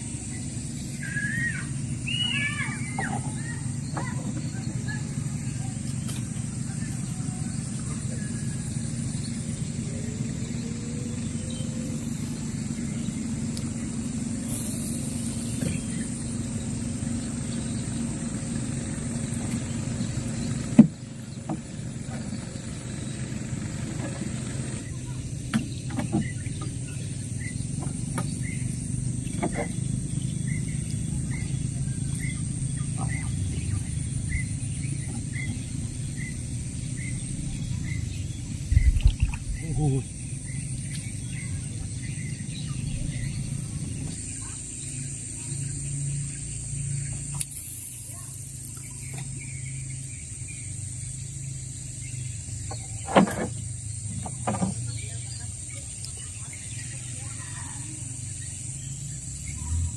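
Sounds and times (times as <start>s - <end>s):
bird chirping: 0.0s - 59.9s
motor humming: 0.0s - 59.9s.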